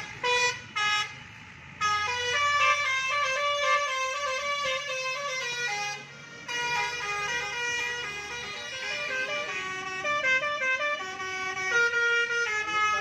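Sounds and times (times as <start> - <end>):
bus horn playing a melody: 0.0 - 1.2, 1.8 - 13.0.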